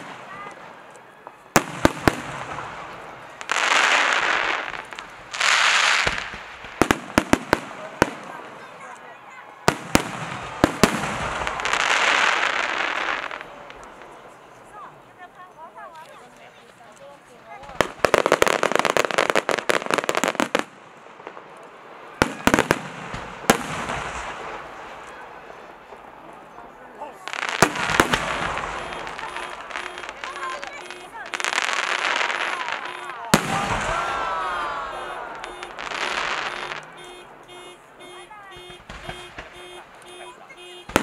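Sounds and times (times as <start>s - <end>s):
fireworks sharp bangs: 0.0s - 14.6s, 17.3s - 41.0s
fireworks crackling bursts: 0.0s - 41.0s.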